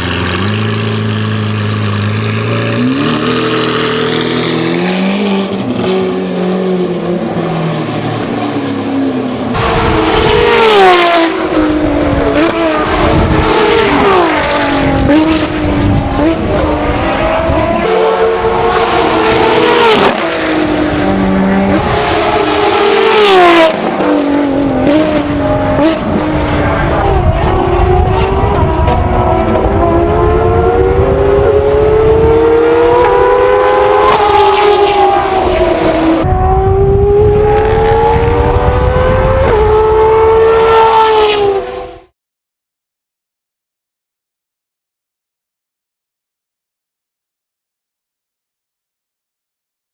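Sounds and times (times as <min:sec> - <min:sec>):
sports car engine accelerating: 0:00.0 - 0:42.1.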